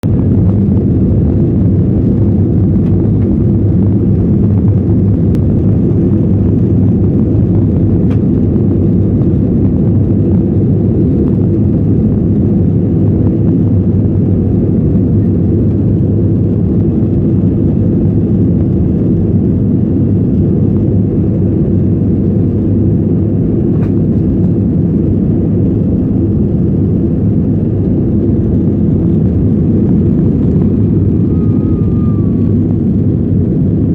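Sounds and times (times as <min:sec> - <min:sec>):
airplane engines rumbling: 0:00.0 - 0:33.9.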